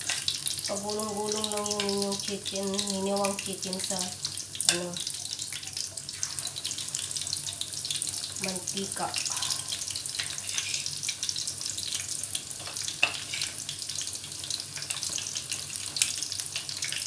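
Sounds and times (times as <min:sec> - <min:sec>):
chicken frying in hot oil: 0:00.0 - 0:17.0.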